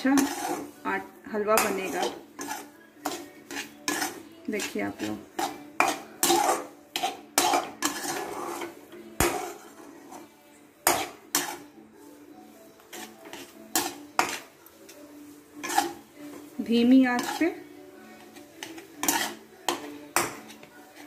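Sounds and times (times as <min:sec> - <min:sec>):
metal spatula scraping a metal pan: 0:00.0 - 0:21.0.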